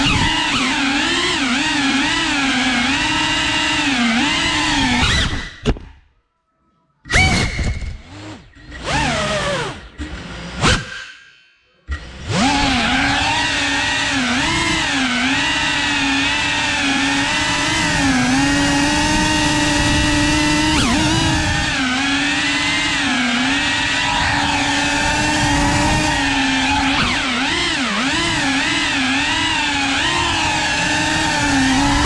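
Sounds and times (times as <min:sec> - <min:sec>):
drone motors whining: 0:00.0 - 0:05.8, 0:07.1 - 0:11.2, 0:11.9 - 0:32.0.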